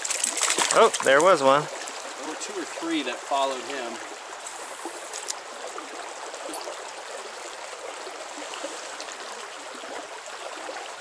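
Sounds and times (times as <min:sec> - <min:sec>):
fast-flowing stream rushing: 0:00.0 - 0:11.0.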